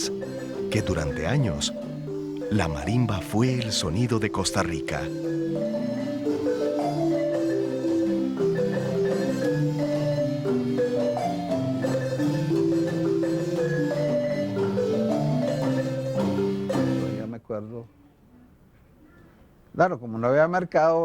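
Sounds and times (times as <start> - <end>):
marimba music: 0.0 - 17.3.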